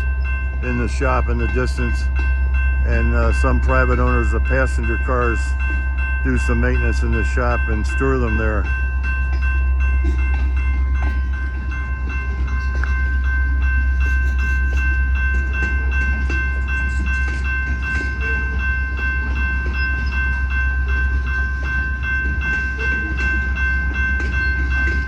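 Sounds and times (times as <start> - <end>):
diesel locomotive engine rumble: 0.0 - 25.0
high ringing tones: 0.0 - 25.0.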